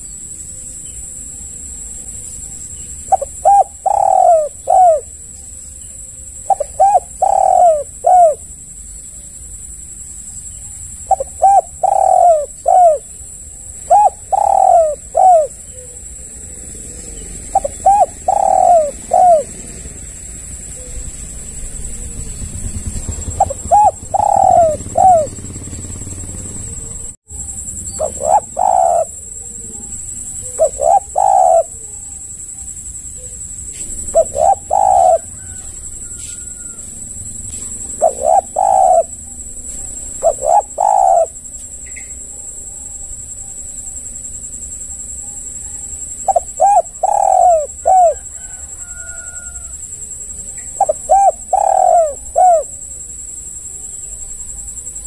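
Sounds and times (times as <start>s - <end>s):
dove cooing: 0.0s - 9.2s, 10.3s - 43.8s, 45.0s - 55.0s
steady high-pitched hiss: 0.0s - 55.0s.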